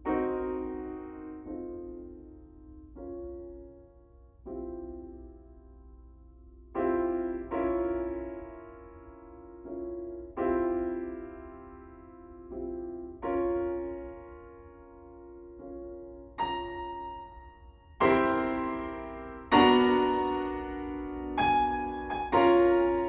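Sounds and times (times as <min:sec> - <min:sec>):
soft piano chords: 0:00.0 - 0:23.0.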